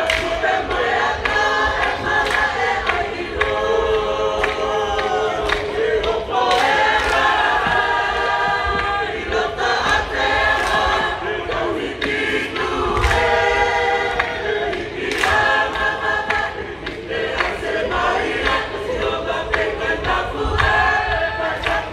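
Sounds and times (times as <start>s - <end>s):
choir singing: 0.0s - 21.9s.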